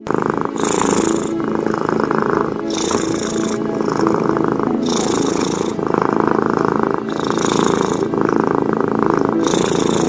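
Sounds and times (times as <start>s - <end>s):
cat purring loudly: 0.0s - 10.0s.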